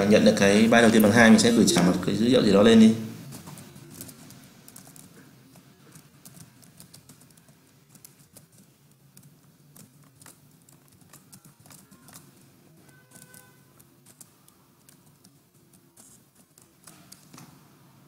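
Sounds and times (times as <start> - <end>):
faint keyboard typing: 0.0 - 18.0.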